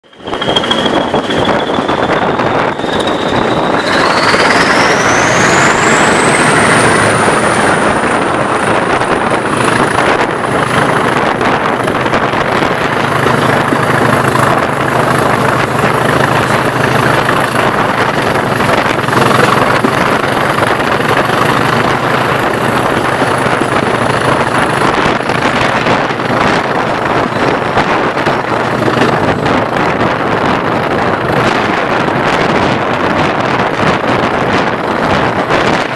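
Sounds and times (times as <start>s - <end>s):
diesel locomotive engine running: 0.0s - 35.9s
high turbocharger whine: 0.0s - 35.9s.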